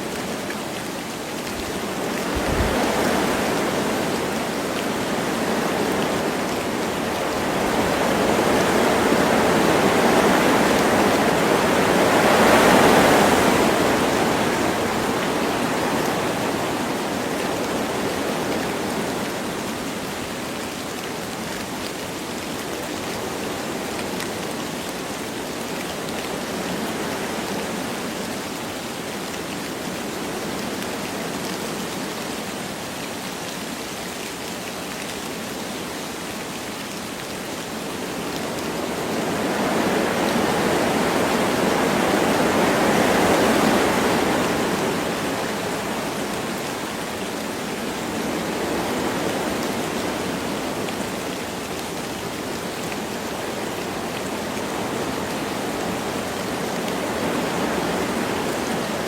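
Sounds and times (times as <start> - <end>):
light rain: 0.0 - 59.0
wind through trees: 0.0 - 59.0.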